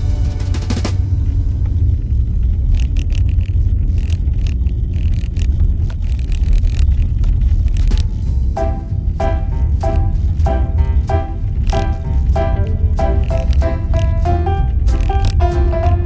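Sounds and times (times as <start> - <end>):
tyres and engine rumble: 0.0 - 16.0.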